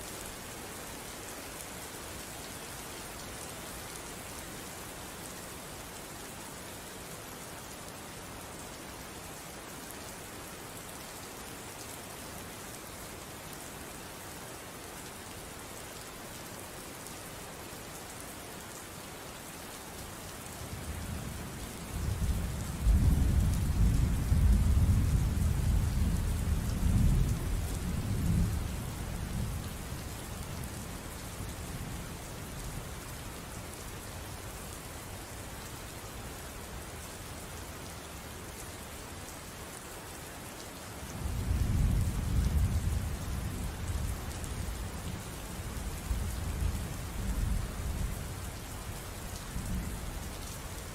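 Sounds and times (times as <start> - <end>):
steady rain hissing: 0.0 - 50.9.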